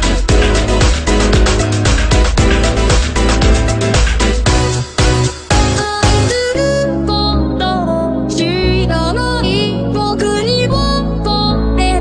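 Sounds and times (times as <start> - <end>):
pop song with bending melody: 0.0 - 12.0
sustained bass: 0.0 - 12.0.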